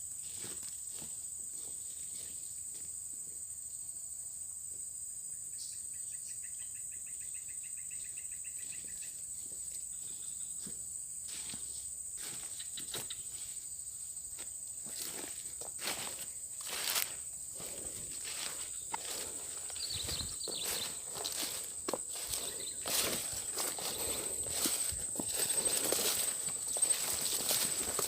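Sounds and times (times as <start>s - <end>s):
high-pitched insect drone: 5.5s - 28.0s.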